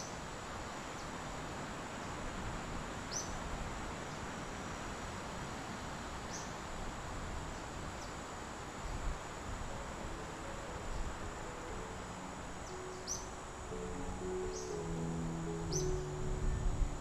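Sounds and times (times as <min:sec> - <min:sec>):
outdoor ambience hiss: 0:00.0 - 0:17.0.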